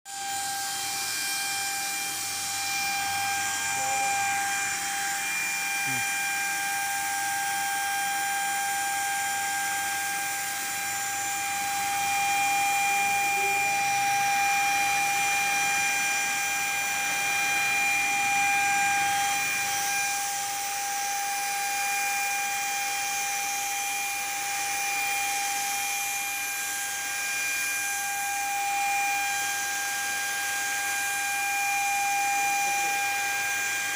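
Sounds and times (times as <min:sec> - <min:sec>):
paint sprayer turbine whine: 0:00.0 - 0:33.9.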